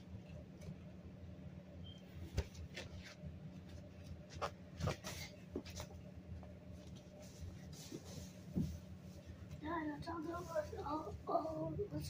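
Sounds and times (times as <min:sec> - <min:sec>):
low steady hum: 0:00.0 - 0:12.0
soft handling rustles: 0:02.2 - 0:12.0.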